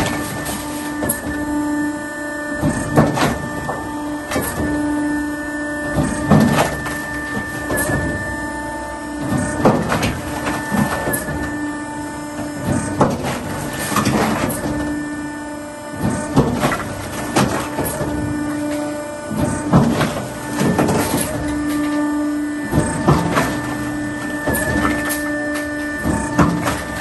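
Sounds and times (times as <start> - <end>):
machine hum: 0.0 - 27.0.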